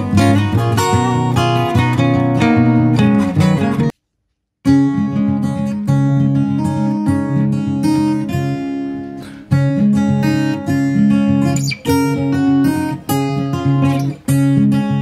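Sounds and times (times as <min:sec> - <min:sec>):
acoustic guitar strumming: 0:00.0 - 0:04.0, 0:04.7 - 0:15.0.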